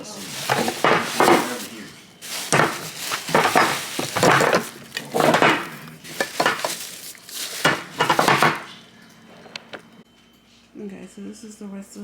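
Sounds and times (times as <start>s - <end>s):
groceries clattering: 0.0s - 9.8s.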